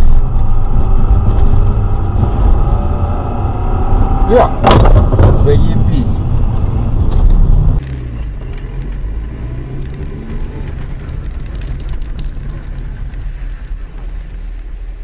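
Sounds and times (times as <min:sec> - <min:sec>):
car engine hum from inside: 0:00.0 - 0:15.0.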